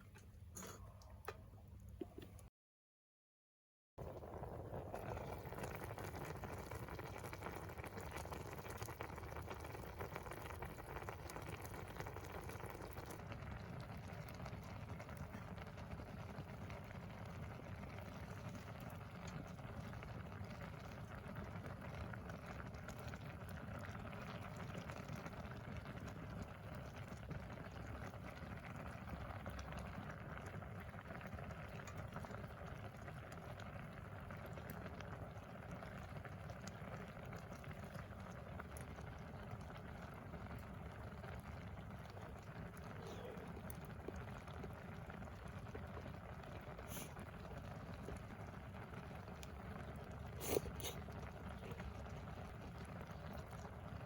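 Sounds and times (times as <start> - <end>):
wood fire crackling and hissing: 4.0 - 13.4, 14.2 - 54.0.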